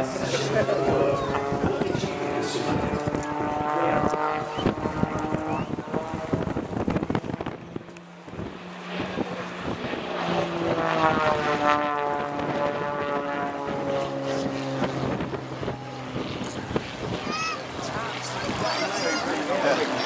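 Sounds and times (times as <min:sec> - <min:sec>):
propeller plane engine: 0:00.0 - 0:20.0.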